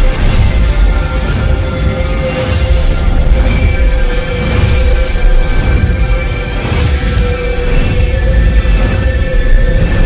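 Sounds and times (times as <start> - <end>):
deep rumble: 0.0 - 10.0
droning ambient music: 0.0 - 10.0.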